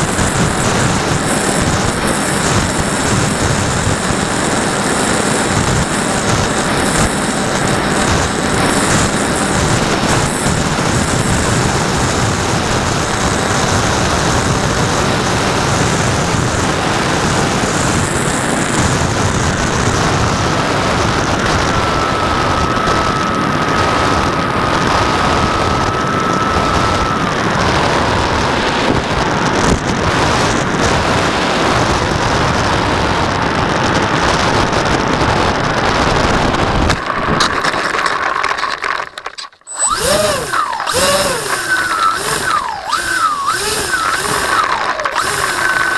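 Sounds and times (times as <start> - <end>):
model plane motors whining: 0.0 - 32.0, 36.0 - 45.9
rushing wind: 0.0 - 38.3.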